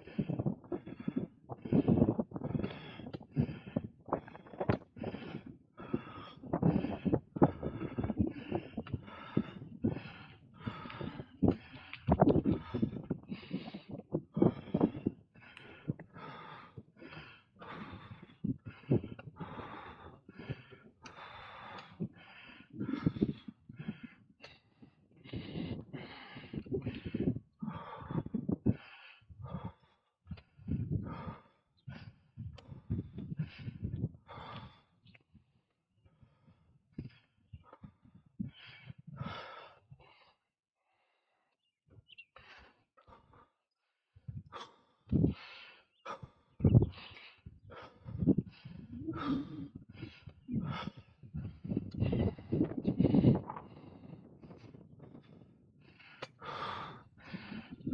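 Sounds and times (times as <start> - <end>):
person breathing hard: 0.0 - 57.9.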